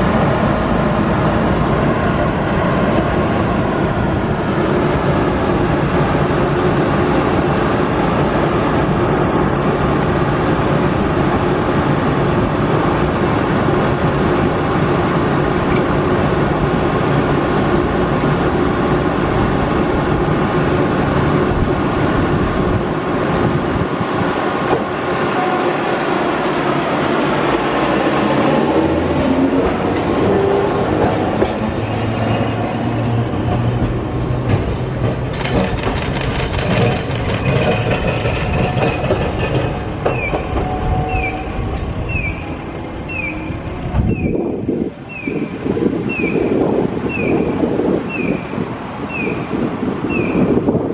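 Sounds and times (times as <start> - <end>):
streetcar motor whine: 0.0 - 48.0
wheels clacking on rails: 0.0 - 48.3.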